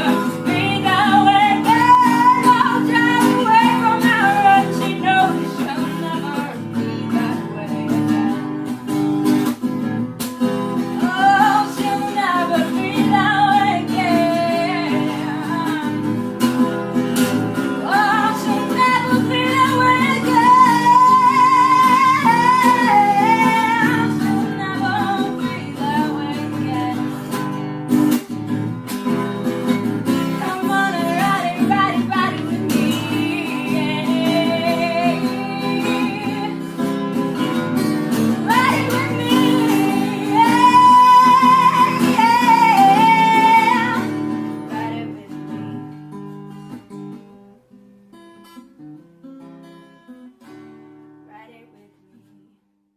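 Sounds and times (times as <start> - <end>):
woman singing: 0.0 - 27.6, 29.6 - 45.9, 51.3 - 52.4
acoustic guitar: 0.0 - 52.9.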